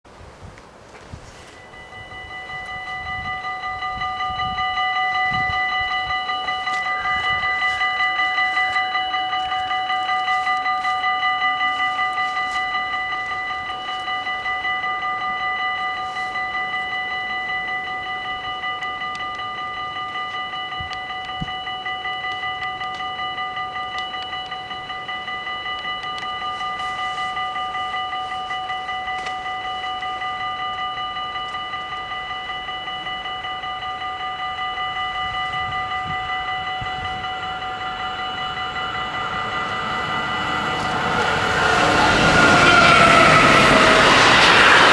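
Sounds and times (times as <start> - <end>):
level crossing warning bells: 0.1 - 44.9
train rumble: 0.1 - 44.9.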